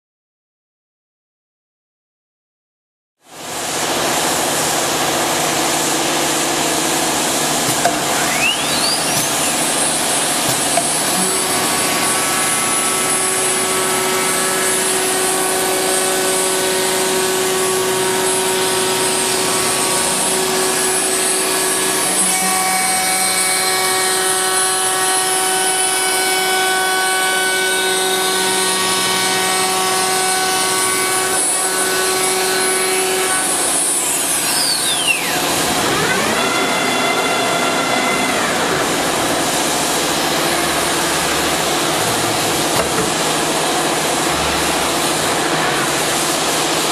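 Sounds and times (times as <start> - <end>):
cnc router cutting a board: 3.3 - 46.9
high spindle whine: 4.0 - 46.9.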